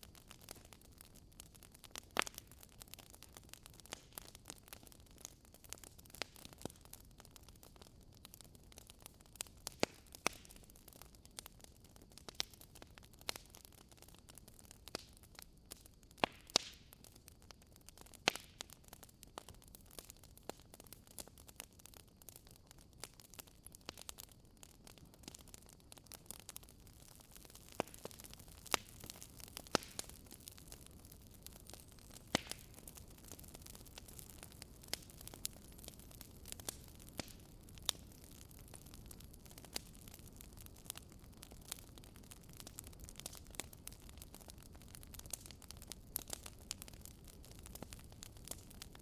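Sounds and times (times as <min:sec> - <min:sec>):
faint steady hiss: 0:00.0 - 0:49.0
wood fire crackling: 0:00.0 - 0:49.0.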